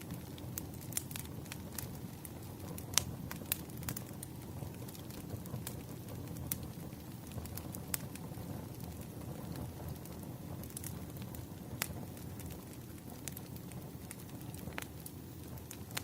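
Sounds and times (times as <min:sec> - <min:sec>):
fire pops and snaps: 0:00.1 - 0:16.0
flames rushing: 0:00.1 - 0:16.0.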